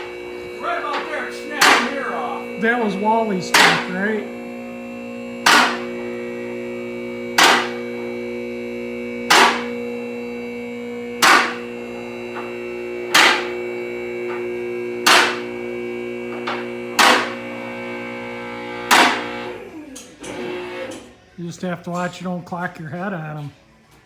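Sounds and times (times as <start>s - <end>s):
electric motor humming: 0.0s - 21.3s.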